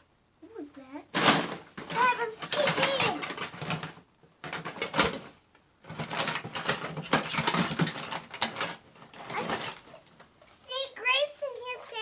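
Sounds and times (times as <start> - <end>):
toys rustling and clattering: 1.1 - 12.0.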